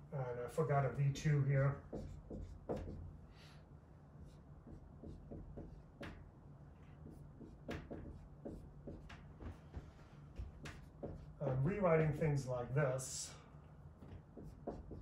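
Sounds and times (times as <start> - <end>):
marker writing on whiteboard: 0.6 - 3.6, 4.2 - 12.4, 14.0 - 15.0.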